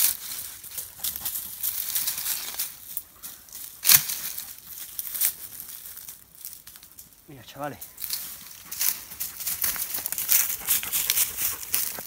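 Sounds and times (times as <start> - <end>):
footsteps crunching through leaves: 0.0 - 12.0.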